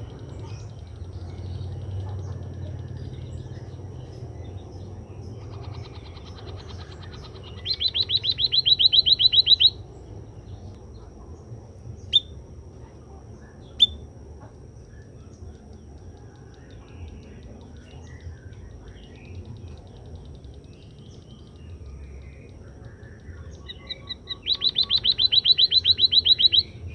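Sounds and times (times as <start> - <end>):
small bird sharp chirps: 0.0 - 10.7, 14.8 - 26.9.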